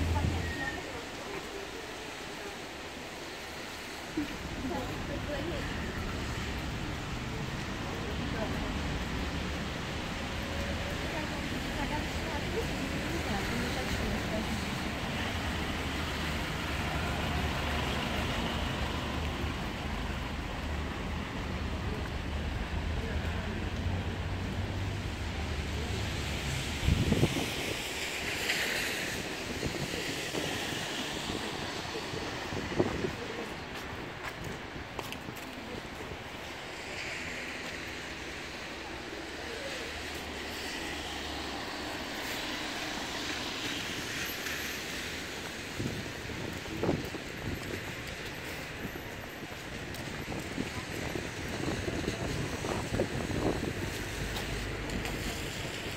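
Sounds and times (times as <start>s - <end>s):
low traffic rumble: 0.0s - 55.9s
tyres hissing on wet road: 0.0s - 55.9s.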